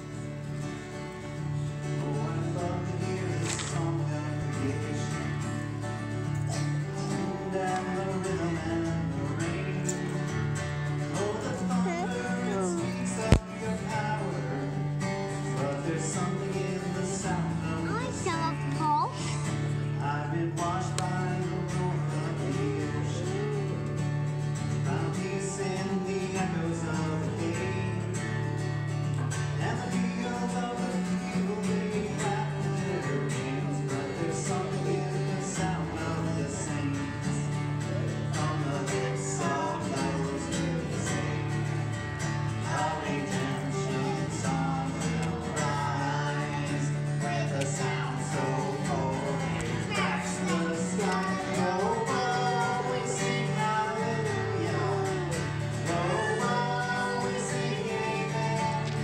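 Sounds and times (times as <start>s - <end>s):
acoustic guitar strumming: 0.0s - 59.0s
man singing: 1.6s - 59.0s.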